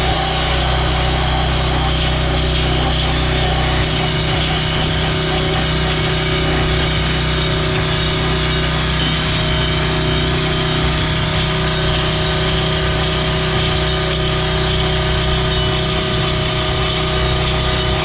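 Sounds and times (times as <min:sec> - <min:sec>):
pressure washer engine running: 0:00.0 - 0:18.0.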